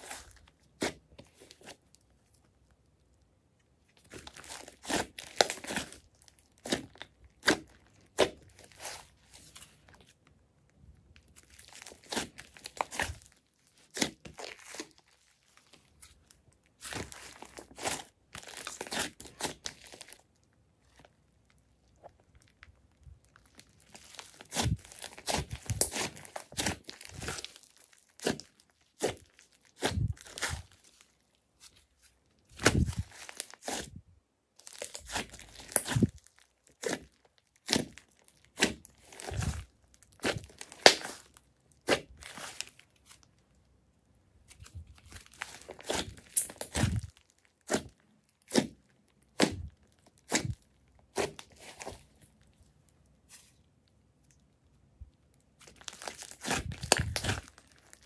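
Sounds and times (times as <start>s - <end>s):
clay slime crackling and popping: 0.0s - 58.0s.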